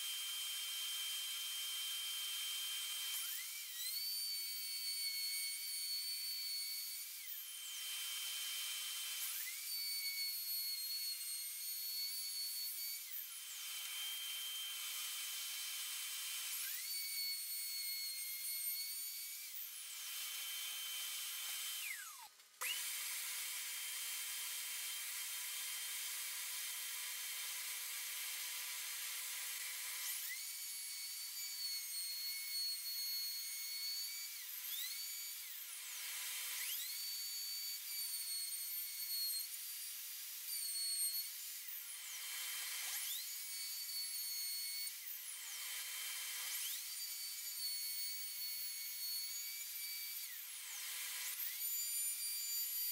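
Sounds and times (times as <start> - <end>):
electric router whining: 0.0 - 52.6.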